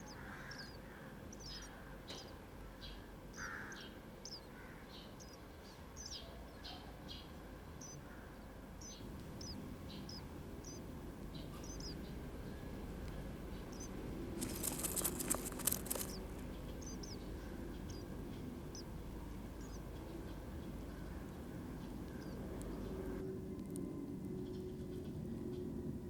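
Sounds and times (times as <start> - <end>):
nestlings chirping: 0.0 - 23.8
low background rumble: 0.0 - 26.0.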